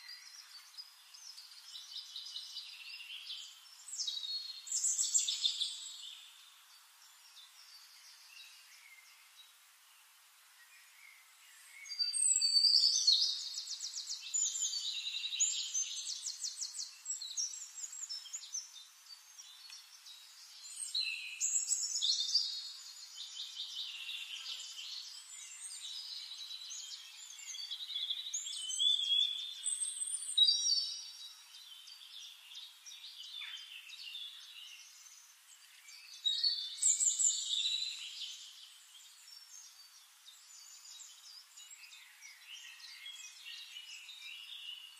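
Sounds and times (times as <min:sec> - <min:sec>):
songbirds trilling and twittering: 0:00.0 - 0:44.9.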